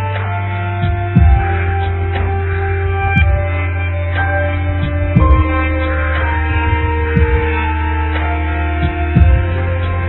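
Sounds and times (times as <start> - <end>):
ambient drone music: 0.0 - 10.0
plucked low notes: 0.0 - 10.0.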